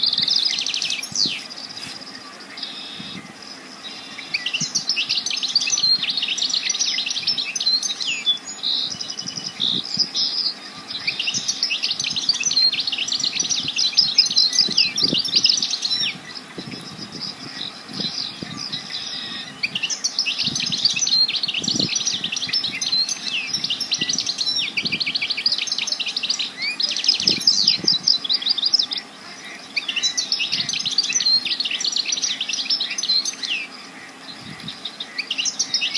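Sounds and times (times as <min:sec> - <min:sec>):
songbird chirping and trilling: 0:00.0 - 0:35.9.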